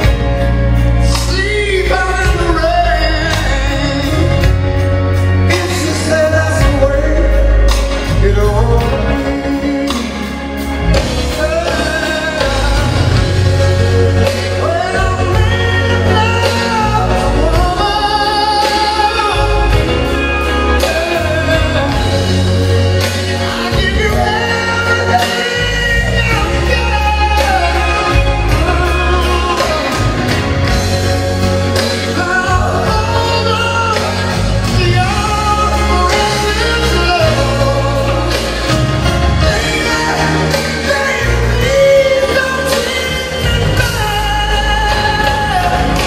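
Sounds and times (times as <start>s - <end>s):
song with sung melody: 0.0s - 46.0s
steady bass: 0.0s - 46.0s.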